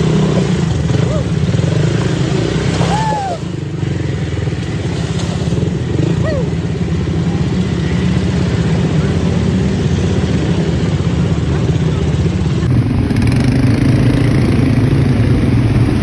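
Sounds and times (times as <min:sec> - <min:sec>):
atv engine chugging: 0:00.0 - 0:16.0.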